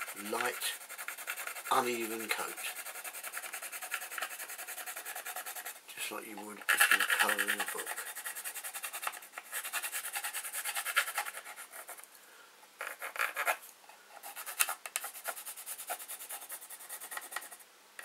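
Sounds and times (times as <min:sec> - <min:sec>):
pencil scratching on paper: 0:00.0 - 0:05.8, 0:06.4 - 0:12.0, 0:12.8 - 0:17.6.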